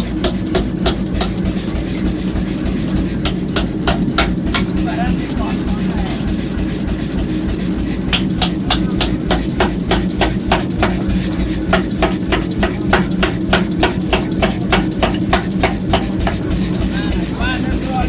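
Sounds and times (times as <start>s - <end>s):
hammer striking iron: 0.0s - 18.0s
machine humming: 0.0s - 18.0s.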